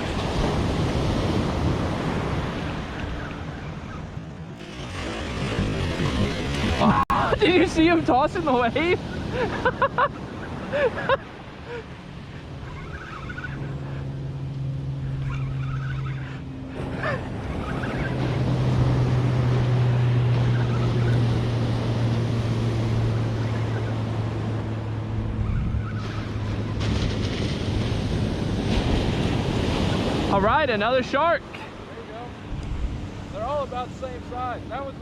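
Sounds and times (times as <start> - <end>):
engine hum: 0.0 - 35.0
surf breaking: 4.2 - 35.0.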